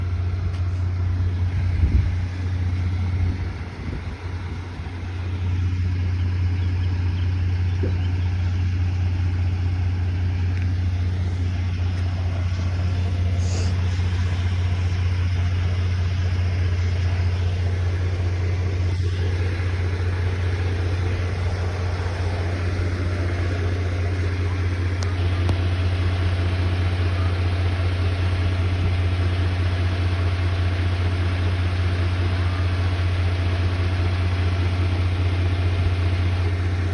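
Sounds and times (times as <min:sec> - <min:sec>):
vehicle engine humming: 0:00.0 - 0:36.9.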